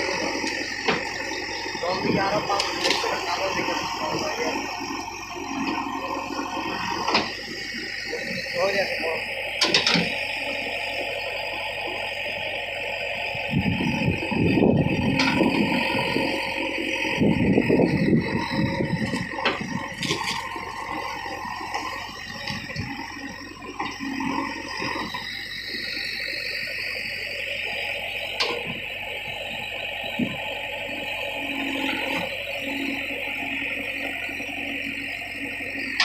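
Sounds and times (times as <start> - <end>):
backhoe engine and hydraulics rushing: 0.0 - 36.0.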